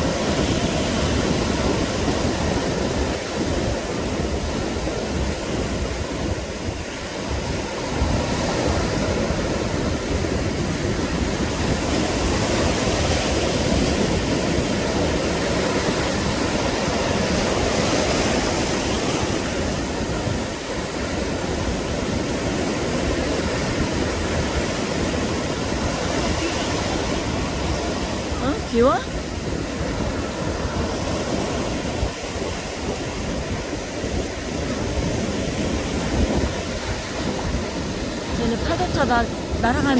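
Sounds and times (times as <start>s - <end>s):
surf washing up beach: 0.0s - 39.9s.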